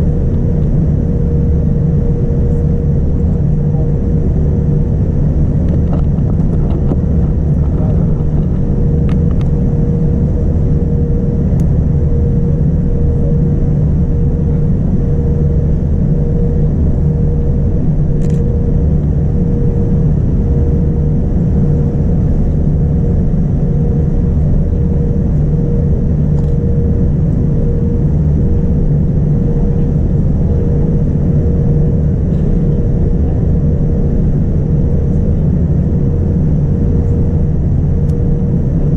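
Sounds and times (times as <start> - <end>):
airliner cabin engine rumble: 0.0 - 38.9
steady hum: 0.0 - 38.9.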